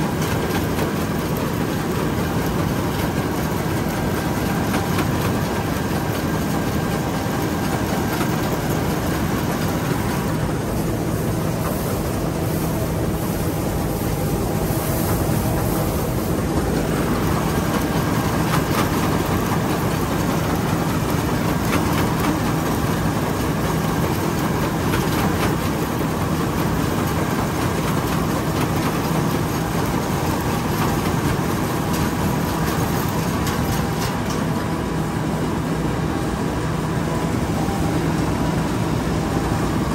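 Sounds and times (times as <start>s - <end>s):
harvester engine droning: 0.0s - 39.9s.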